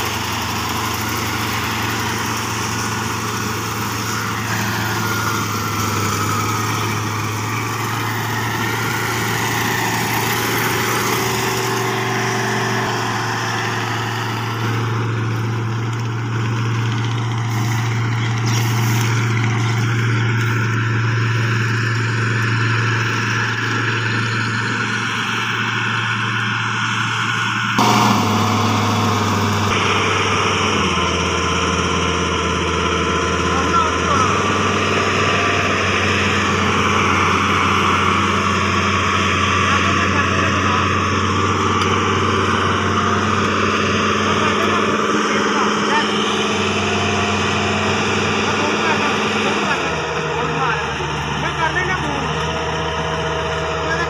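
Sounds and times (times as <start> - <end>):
threshing machinery rushing: 0.0 - 23.9, 27.8 - 54.0
combine harvester engine drone: 0.0 - 54.0.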